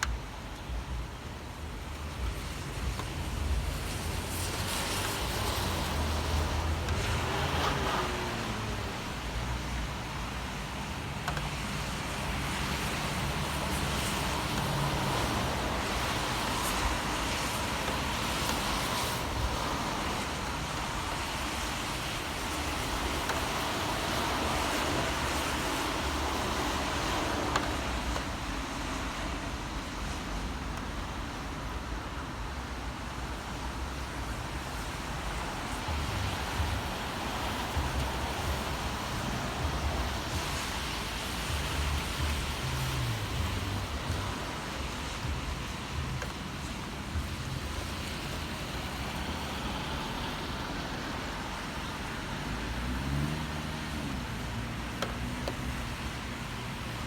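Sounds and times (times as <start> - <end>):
cars passing on wet streets: 0.0 - 57.0.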